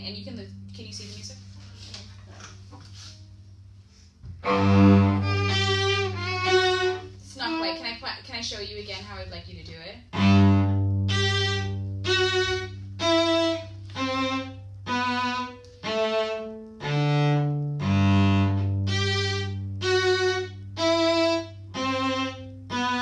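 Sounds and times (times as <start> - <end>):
bowed string instrument: 0.0 - 8.0, 10.1 - 23.0.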